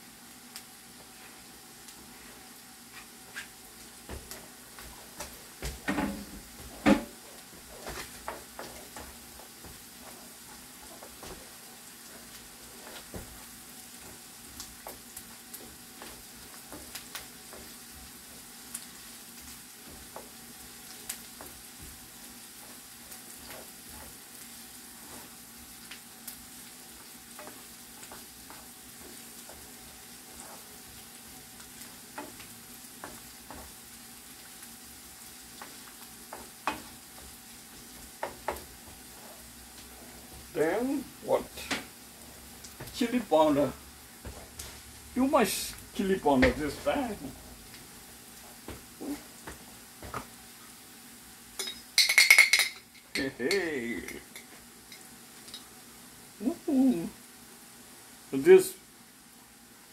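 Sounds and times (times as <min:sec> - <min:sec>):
frying sizzle: 0:00.0 - 0:59.9.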